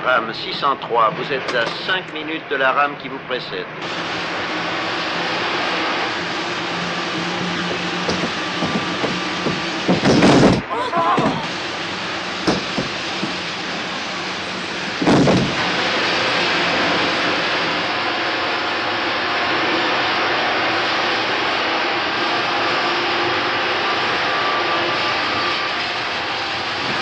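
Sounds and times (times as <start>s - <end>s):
train rumbling through tunnel: 0.0s - 27.0s.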